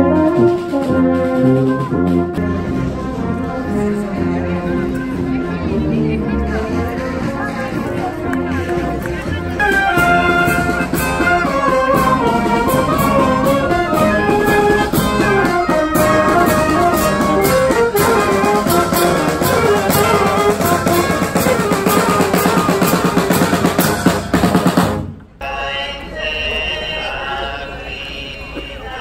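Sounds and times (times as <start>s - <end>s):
marching band playing: 0.0s - 29.0s.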